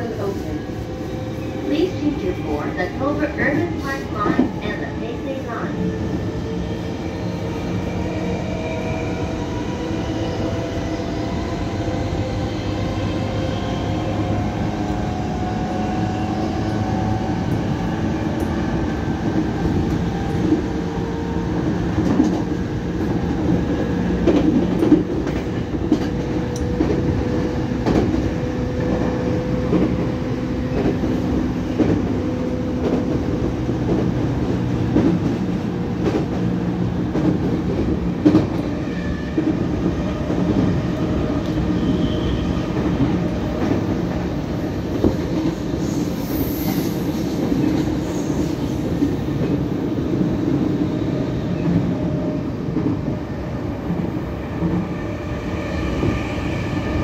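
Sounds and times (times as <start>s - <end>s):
train passing: 0.0s - 57.0s
train wheels and motors rumbling: 0.1s - 57.0s.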